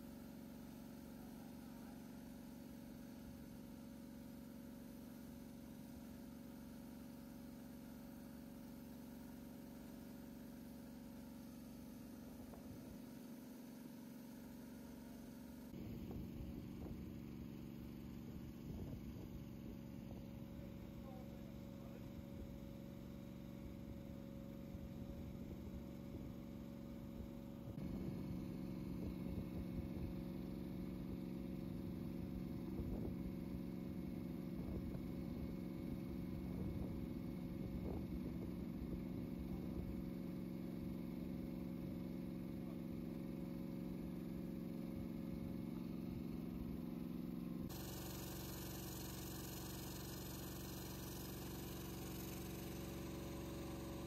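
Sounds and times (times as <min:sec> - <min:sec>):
small engine running a pump: 0:00.0 - 0:54.0.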